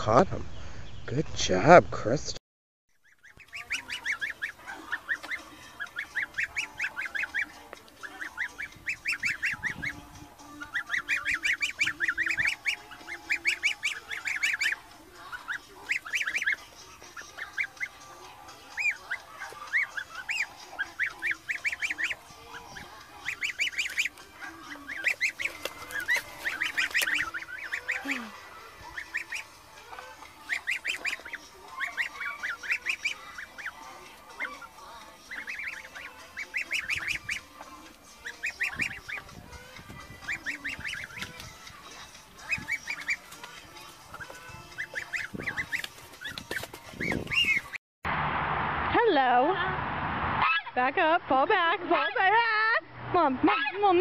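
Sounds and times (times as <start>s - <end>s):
gosling peeping: 3.0s - 47.8s.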